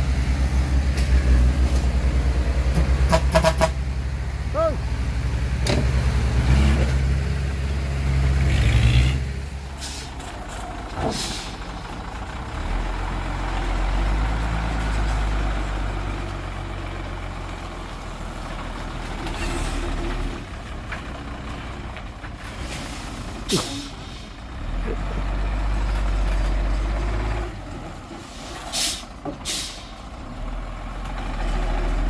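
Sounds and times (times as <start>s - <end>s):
heavy diesel engine drone: 0.0s - 32.0s.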